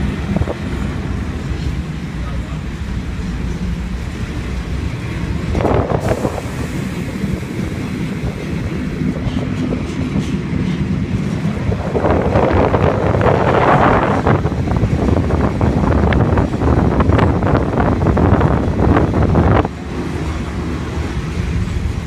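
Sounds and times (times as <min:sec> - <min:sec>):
train rumbling: 0:00.0 - 0:22.0
wind gusts on microphone: 0:00.0 - 0:22.0.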